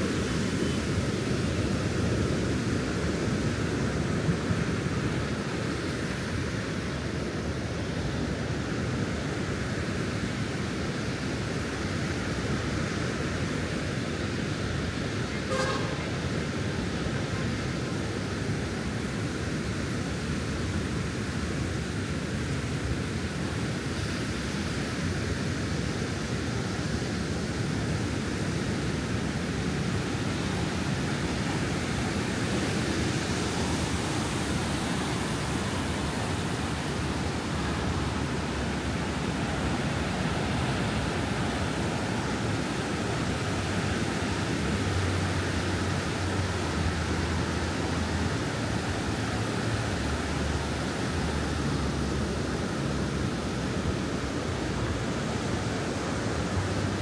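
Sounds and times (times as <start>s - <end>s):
ocean surf on beach: 0.0s - 57.0s.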